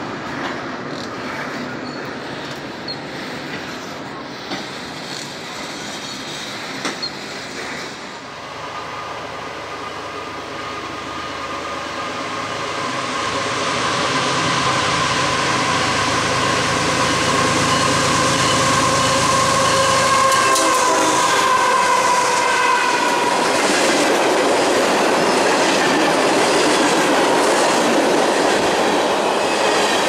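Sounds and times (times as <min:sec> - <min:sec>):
freight cars rolling on rails: 0:00.0 - 0:30.0
freight train rumble: 0:00.0 - 0:30.0.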